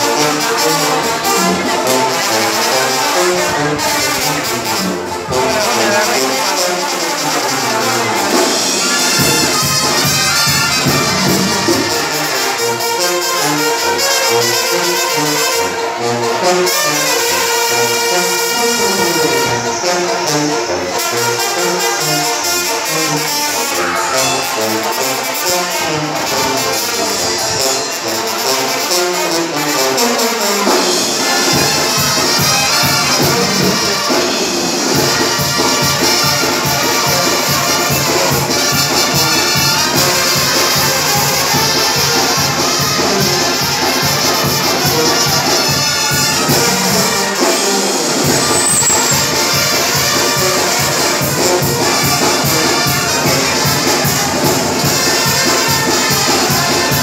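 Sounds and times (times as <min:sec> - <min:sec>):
brass band playing: 0:00.0 - 0:57.0
trumpets and trombones melody: 0:00.0 - 0:57.0.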